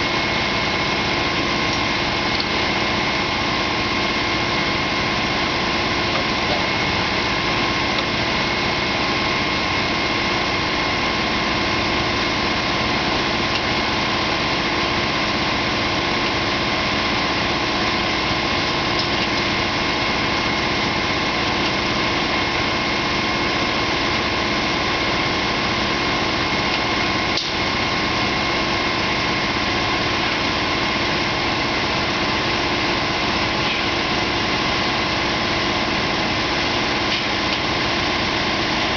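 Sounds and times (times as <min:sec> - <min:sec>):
steady whine: 0:00.0 - 0:38.9
truck engine running: 0:00.0 - 0:38.9.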